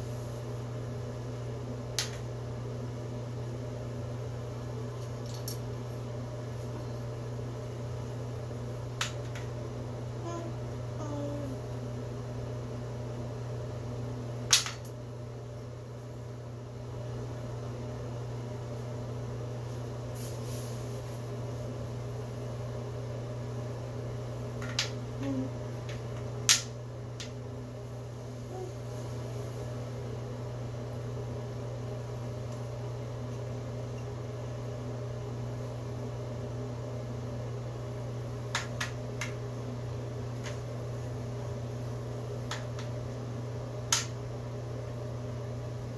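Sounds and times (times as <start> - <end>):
low room hum: 0.0 - 45.9.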